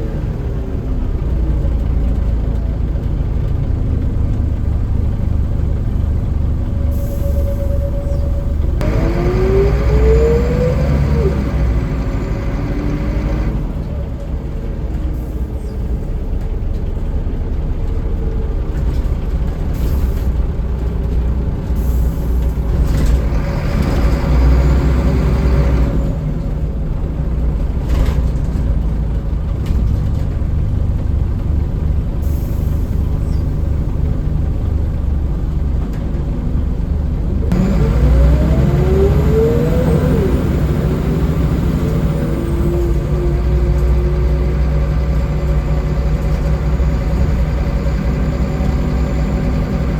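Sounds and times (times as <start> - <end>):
bus engine droning: 0.0 - 49.9.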